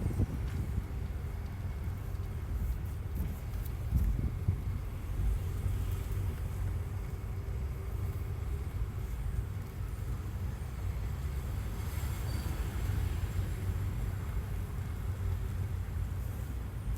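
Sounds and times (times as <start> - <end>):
car engine low rumble: 0.0 - 16.9.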